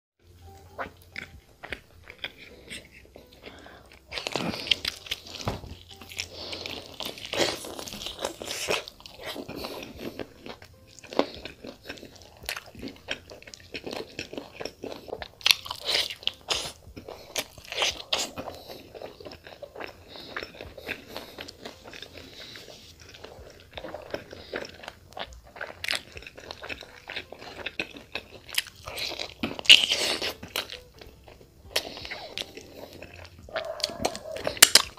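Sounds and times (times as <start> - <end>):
person chewing chicken: 0.2 - 34.9.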